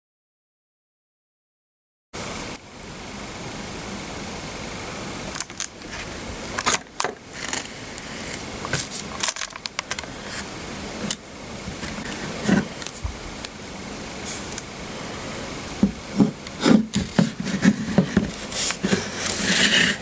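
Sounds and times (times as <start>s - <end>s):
steady hiss: 2.2s - 20.0s.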